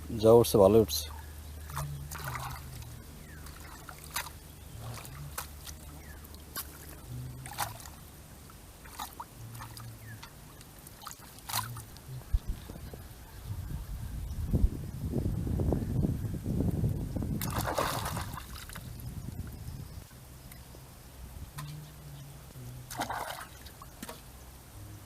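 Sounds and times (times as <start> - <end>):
low steady hum: 0.0 - 25.0
water trickling and dripping: 0.2 - 13.1, 16.6 - 25.0.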